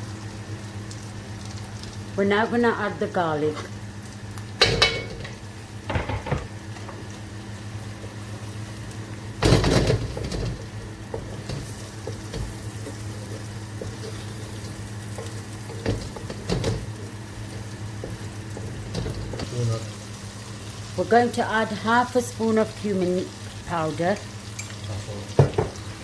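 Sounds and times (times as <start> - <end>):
onion frying in butter: 0.0 - 26.0.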